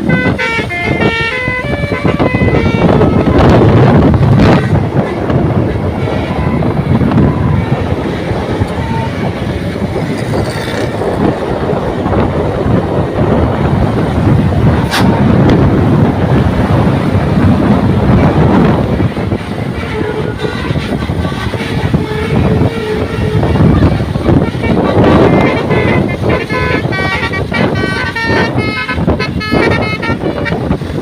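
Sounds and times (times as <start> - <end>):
bus engine and tyre rumble: 0.0 - 31.0.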